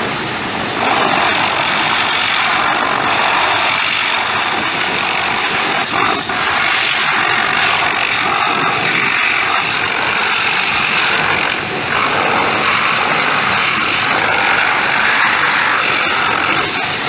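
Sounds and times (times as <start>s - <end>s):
pressure washer spraying: 0.0s - 17.0s.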